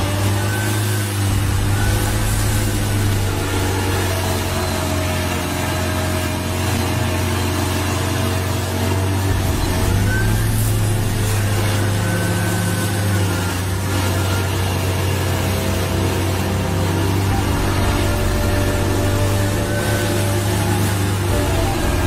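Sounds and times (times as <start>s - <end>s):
cutter wheel grinding stump: 0.0s - 22.0s
stump grinder engine running: 0.0s - 22.0s.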